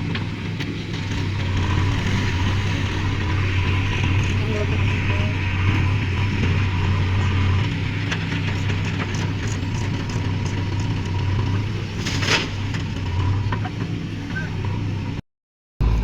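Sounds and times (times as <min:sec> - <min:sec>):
diesel machinery engine humming: 0:00.0 - 0:15.2.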